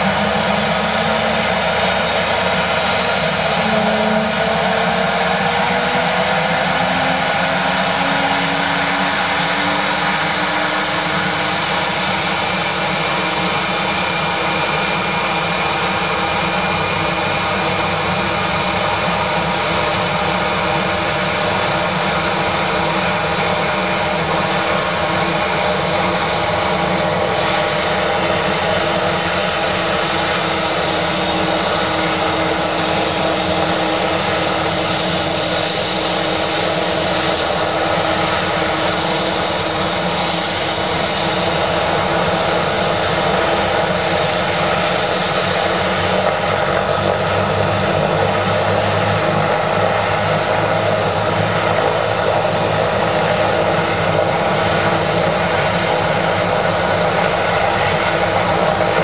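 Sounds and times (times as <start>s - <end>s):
helicopter turbine engines running: 0.0s - 59.0s.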